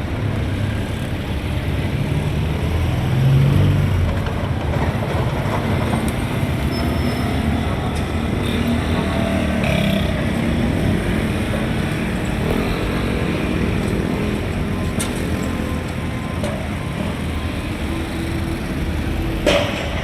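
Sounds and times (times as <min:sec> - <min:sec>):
road traffic engines rumbling: 0:00.0 - 0:20.0.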